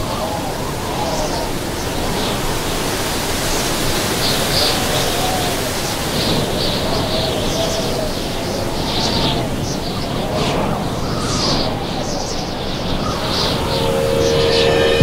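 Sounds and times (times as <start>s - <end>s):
howling wind tone: 0.0s - 15.0s
strong wind blowing: 0.0s - 15.0s.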